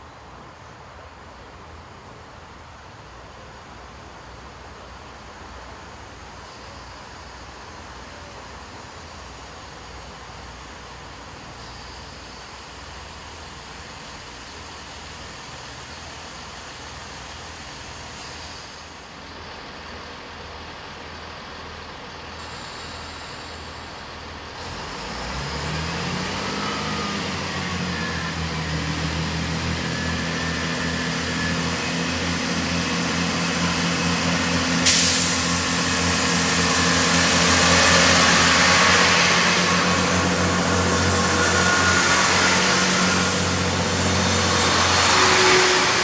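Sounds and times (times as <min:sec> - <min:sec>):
diesel train engines: 0:00.0 - 0:46.0.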